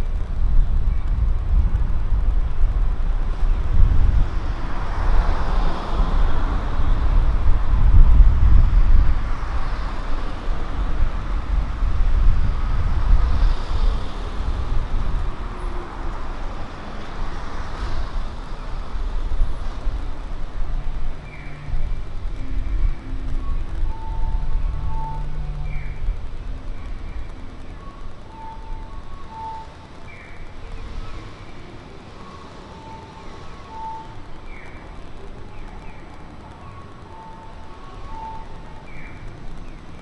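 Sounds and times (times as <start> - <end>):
street traffic noise: 0.0 - 40.0.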